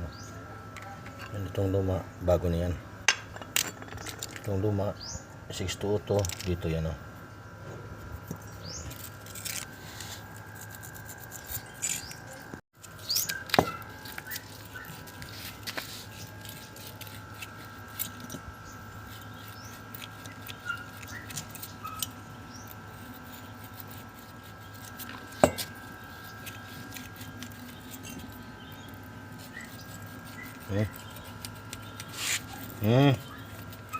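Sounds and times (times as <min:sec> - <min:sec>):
faint high hum: 0:00.0 - 0:33.9.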